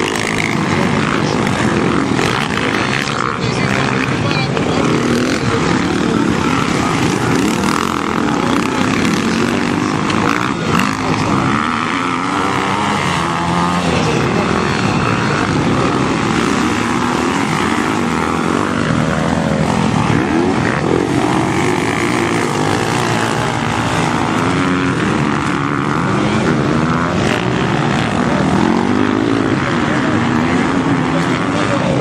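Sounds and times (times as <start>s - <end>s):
motocross motorcycle engines revving: 0.0s - 32.0s.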